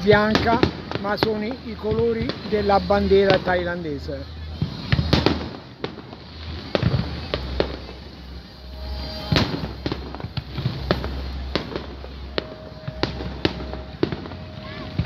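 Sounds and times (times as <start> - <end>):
fireworks bangs and crackles: 0.0 - 15.0
low rumble: 2.3 - 15.0.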